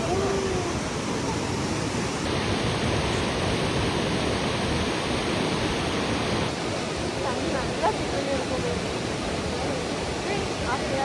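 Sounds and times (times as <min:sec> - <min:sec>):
rushing waterfall: 0:00.0 - 0:11.0.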